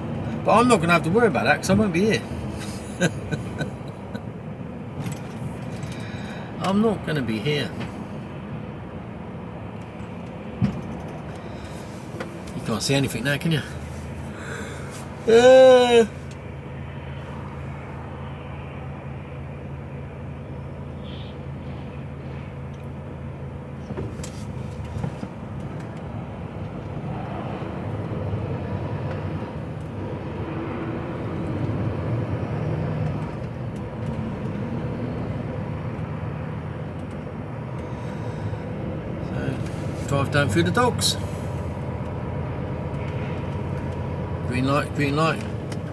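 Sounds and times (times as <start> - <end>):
diesel lorry engine: 0.0 - 45.9
road noise: 0.0 - 45.9.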